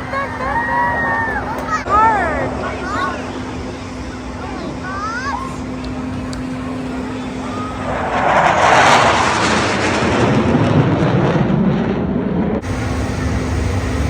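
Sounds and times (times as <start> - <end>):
jet fighter roaring past: 0.0 - 14.0.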